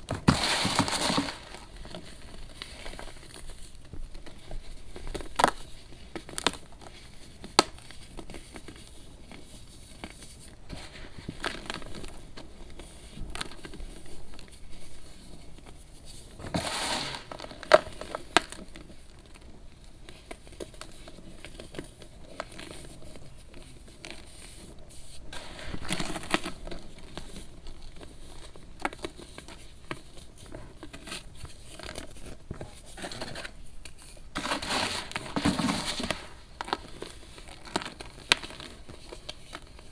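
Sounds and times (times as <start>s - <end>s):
baking soda crunching: 0.0s - 9.8s, 10.6s - 19.5s, 25.2s - 39.9s.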